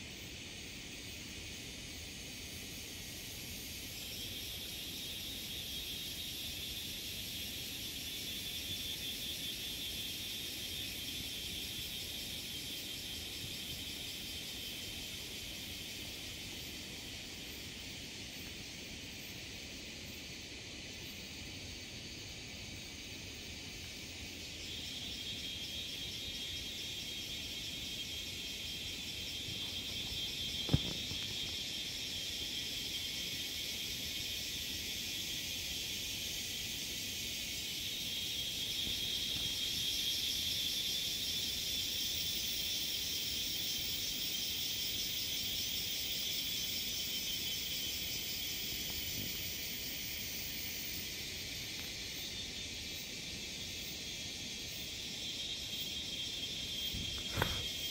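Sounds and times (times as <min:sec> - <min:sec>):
insect chorus trilling: 0:00.0 - 0:57.9.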